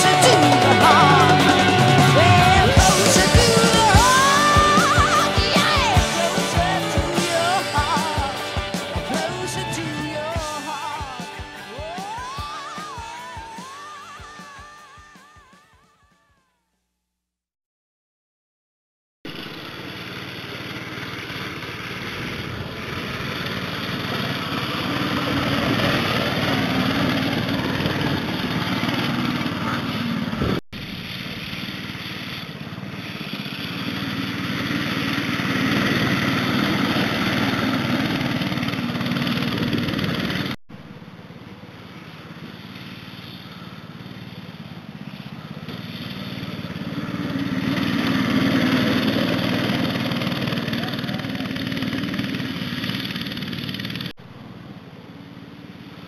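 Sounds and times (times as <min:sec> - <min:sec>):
go-kart engine running: 0:00.0 - 0:15.4, 0:19.3 - 0:56.0.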